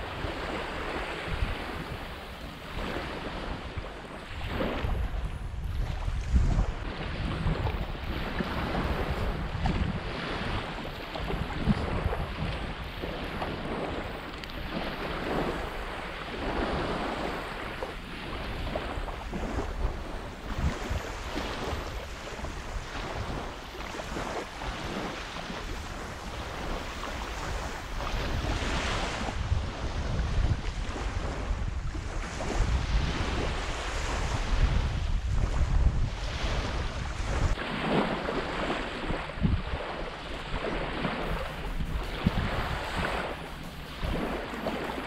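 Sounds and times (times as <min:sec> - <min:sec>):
small waves washing ashore: 0:00.0 - 0:45.0
wind buffeting microphone: 0:00.0 - 0:45.0.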